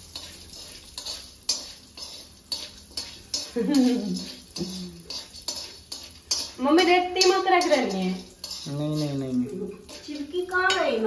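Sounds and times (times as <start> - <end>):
metal spoon scraping in a pan: 0.0 - 11.0.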